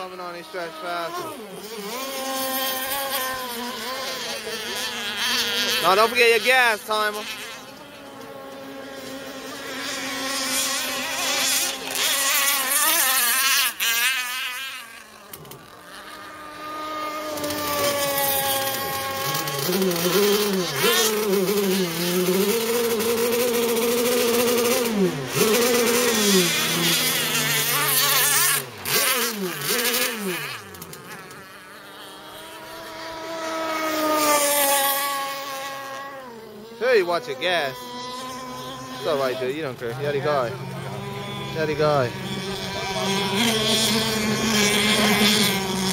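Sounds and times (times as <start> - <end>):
small two-stroke engine buzzing: 0.0 - 45.9.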